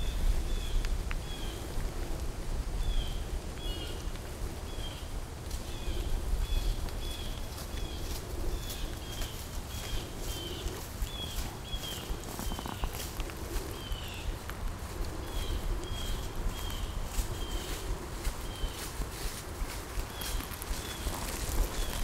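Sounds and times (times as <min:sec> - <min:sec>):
crackling in dry leaves: 0:00.0 - 0:22.0.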